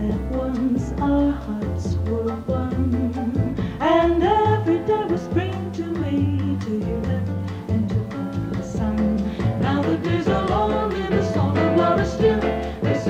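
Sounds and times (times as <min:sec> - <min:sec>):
jazz band with bass and guitar: 0:00.0 - 0:13.0.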